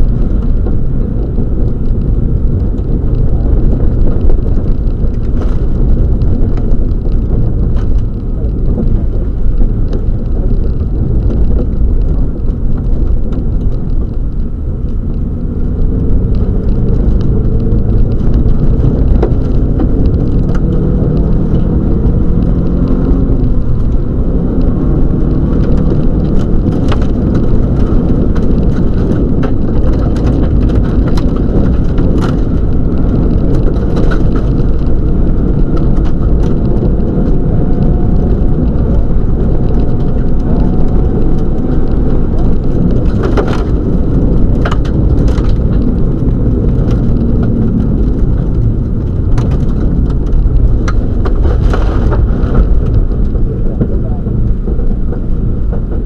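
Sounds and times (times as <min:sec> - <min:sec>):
rally car engine: 0:00.0 - 0:56.0.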